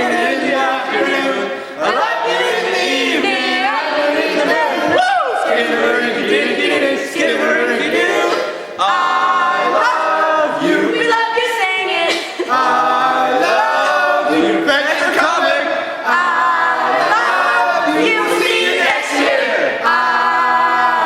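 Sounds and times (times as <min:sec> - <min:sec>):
group singing a cappella: 0:00.0 - 0:21.0.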